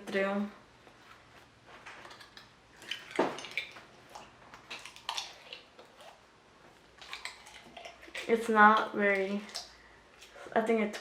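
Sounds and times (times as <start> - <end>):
wet slime squelch: 0.0 - 11.0.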